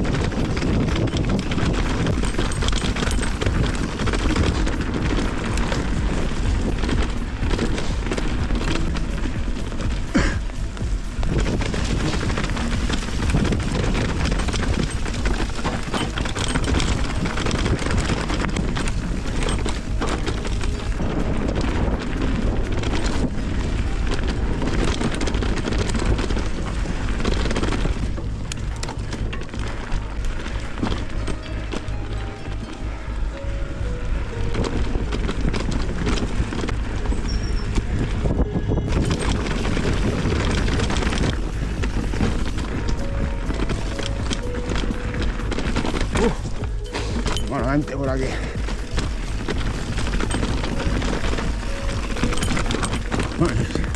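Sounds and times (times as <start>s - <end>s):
small clicks and rattles: 0.0s - 38.2s, 38.9s - 53.9s
low rumble: 0.0s - 53.9s
wind buffeting microphone: 0.0s - 53.9s.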